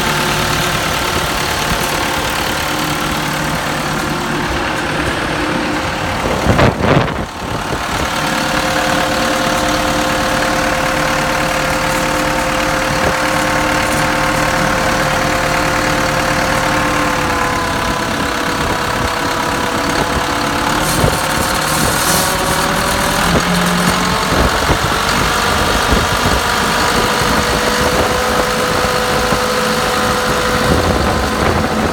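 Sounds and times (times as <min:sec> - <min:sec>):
tractor diesel engine idling: 0:00.0 - 0:31.9.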